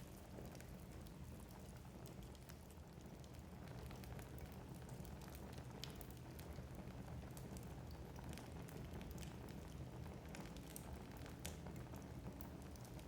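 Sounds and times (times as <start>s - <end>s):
logs crackling and popping: 0.1s - 13.0s.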